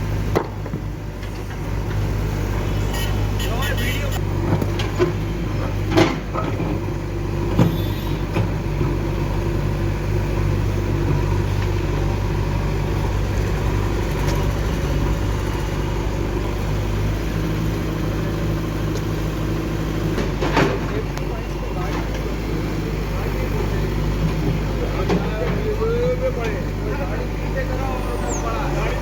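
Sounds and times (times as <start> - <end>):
diesel machinery running: 0.0 - 29.0.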